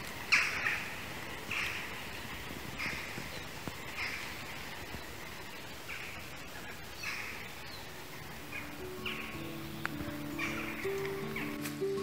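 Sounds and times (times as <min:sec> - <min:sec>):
steady background hiss: 0:00.0 - 0:12.0
bird giving harsh raspy calls: 0:00.3 - 0:12.0.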